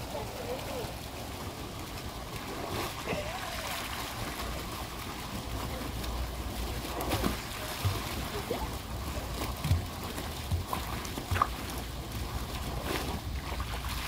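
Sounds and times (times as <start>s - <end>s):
fountain bubbling and splashing: 0.0s - 14.0s.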